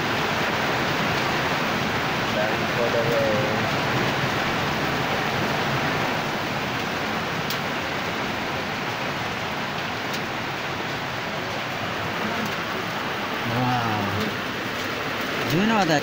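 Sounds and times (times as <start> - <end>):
rain falling on wet ground: 0.0 - 16.0.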